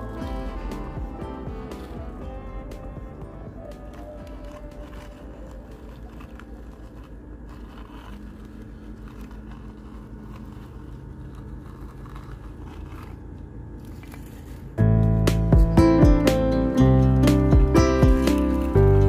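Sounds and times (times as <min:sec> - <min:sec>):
heavy machine engine rumbling: 0:00.0 - 0:19.0
steady hum: 0:00.0 - 0:19.0.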